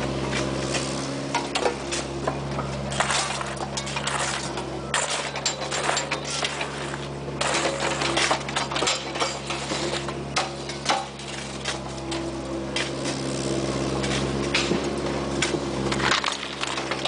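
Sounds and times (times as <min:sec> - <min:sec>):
diesel engine running: 0:00.0 - 0:17.0
shovels scraping on gravel: 0:00.0 - 0:17.0.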